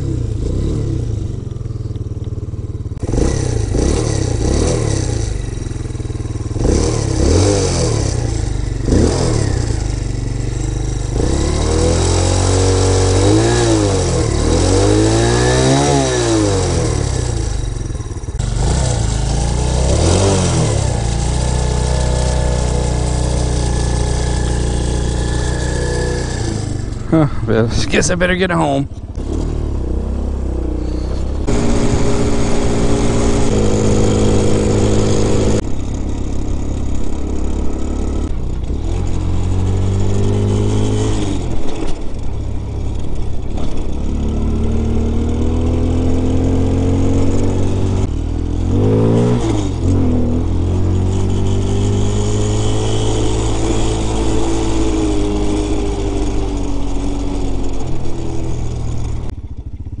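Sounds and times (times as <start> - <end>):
pit bike engine shifting gears: 0.0 - 60.0.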